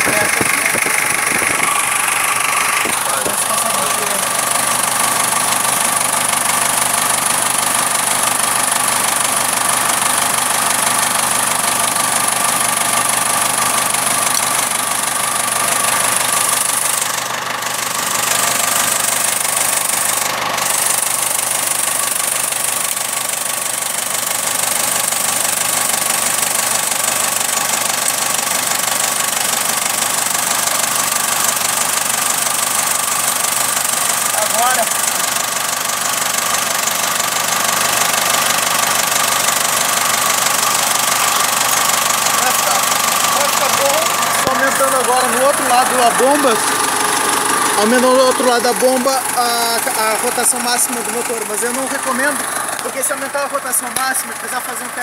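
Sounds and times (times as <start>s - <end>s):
diesel engine running with knock: 0.0s - 55.0s.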